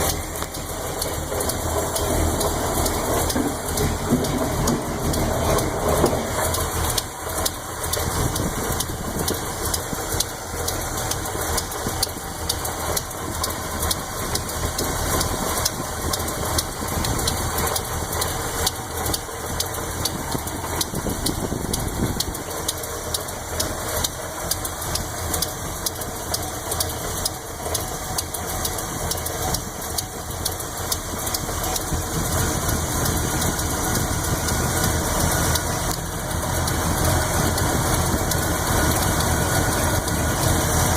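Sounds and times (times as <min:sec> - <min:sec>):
car engine idling: 0:00.0 - 0:40.9
valvetrain ticking: 0:00.0 - 0:40.9.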